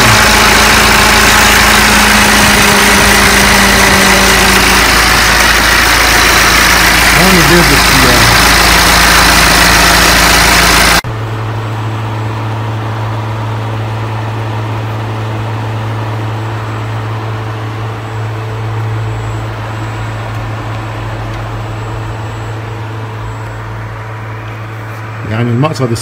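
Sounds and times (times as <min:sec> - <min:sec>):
radiator cooling fan humming: 0:00.0 - 0:26.0.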